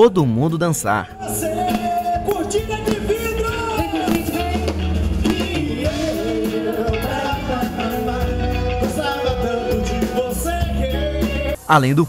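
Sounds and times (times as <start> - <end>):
live pop band playing: 1.1 - 11.6
person singing: 1.1 - 11.7.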